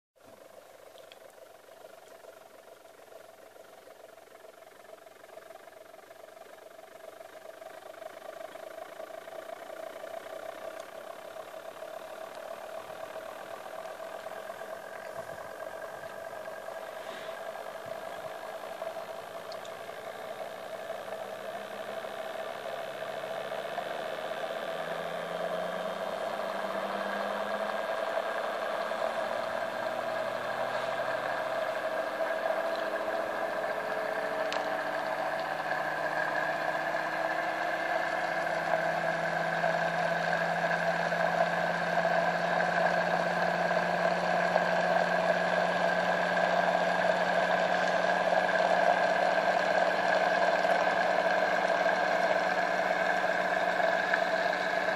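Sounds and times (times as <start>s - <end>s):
electric motor whine spinning up: 7.4s - 54.9s.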